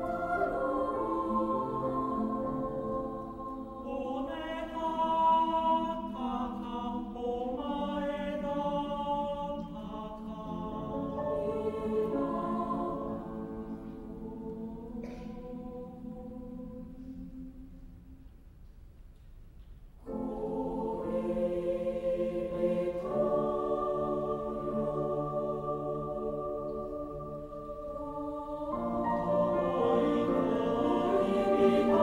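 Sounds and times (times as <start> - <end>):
mixed choir singing chords: 0.0 - 18.1, 20.1 - 32.0.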